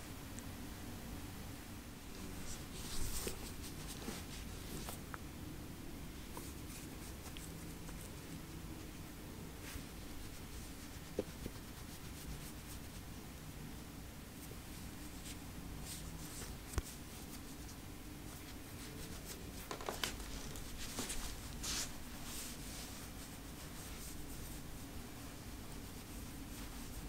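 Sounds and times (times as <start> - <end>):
low steady hum: 0.0 - 27.0
hand rubbing cat fur: 2.1 - 5.0, 6.3 - 9.0, 9.6 - 13.1, 14.4 - 27.0.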